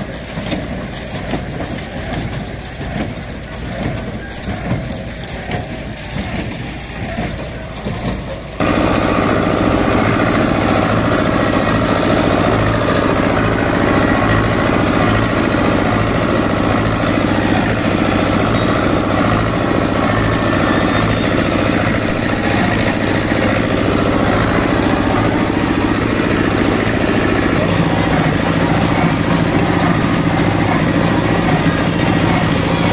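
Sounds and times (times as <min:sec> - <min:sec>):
square baler working: 0:00.0 - 0:32.9
tractor diesel engine running: 0:00.0 - 0:32.9.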